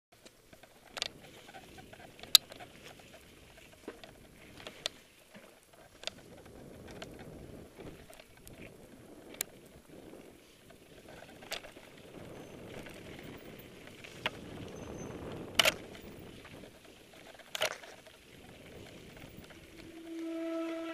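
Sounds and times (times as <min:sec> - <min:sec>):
bike tyres rumbling on trail: 0:00.2 - 0:20.9.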